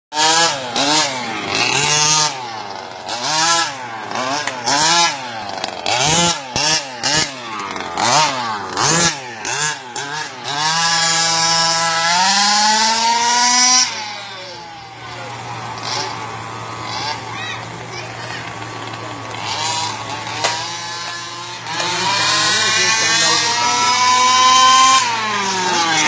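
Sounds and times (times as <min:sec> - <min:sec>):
small two-stroke engine revving: 0:00.1 - 0:26.0.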